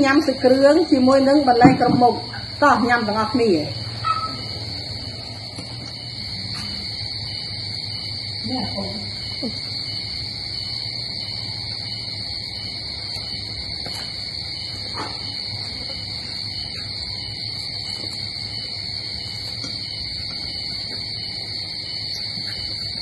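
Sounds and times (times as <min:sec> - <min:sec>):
high-pitched insect chorus: 0:00.0 - 0:23.0
pulsing insect calls: 0:00.0 - 0:23.0.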